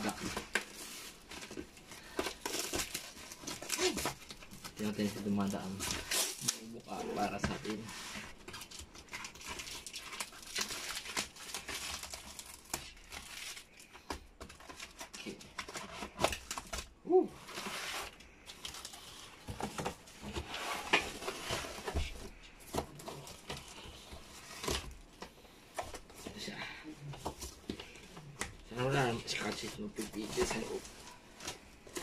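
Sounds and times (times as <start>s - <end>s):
cardboard rustling and scraping: 0.0s - 26.5s, 27.1s - 32.0s
packing tape crinkling and tearing: 0.0s - 26.5s.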